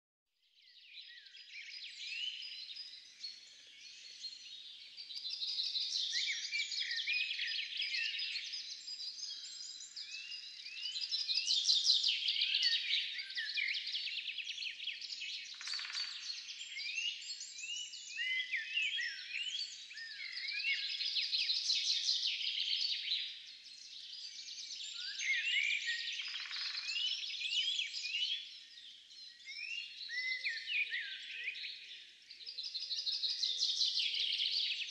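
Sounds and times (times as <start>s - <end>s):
songbirds chirping: 0.6s - 34.9s.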